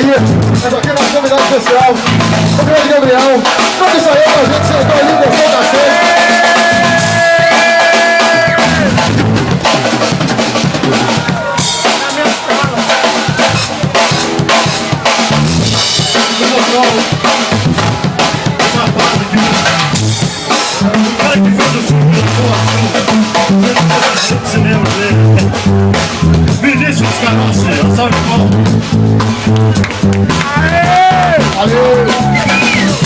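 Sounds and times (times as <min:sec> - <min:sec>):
drum kit kick and snare: 0:00.0 - 0:33.0
live rock band playing: 0:00.0 - 0:33.0.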